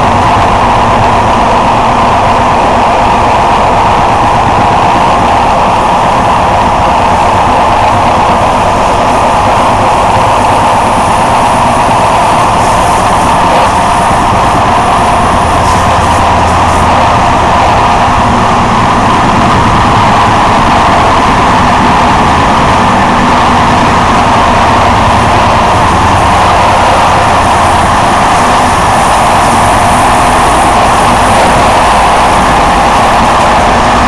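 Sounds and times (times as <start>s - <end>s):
faint high whine: 0.0s - 34.0s
train rumbling and rushing: 0.0s - 34.0s.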